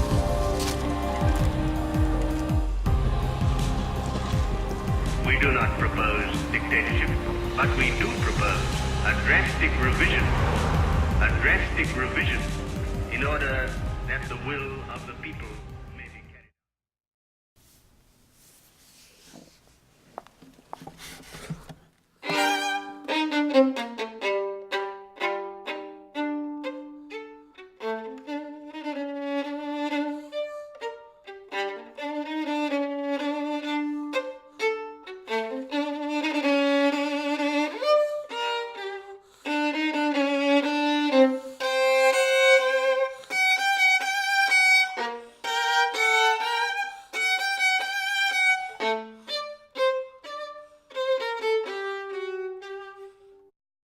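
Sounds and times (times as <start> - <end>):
violin music: 0.0 - 16.3, 22.2 - 53.5.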